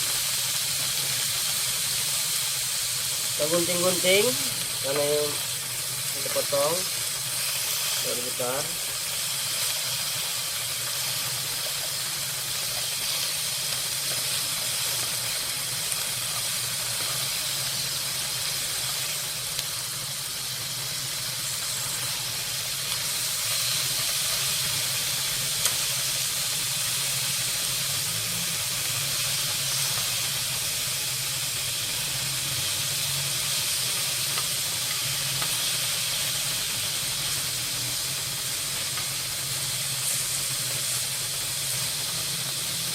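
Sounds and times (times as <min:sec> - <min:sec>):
meat sizzling in oil: 0:00.0 - 0:42.9.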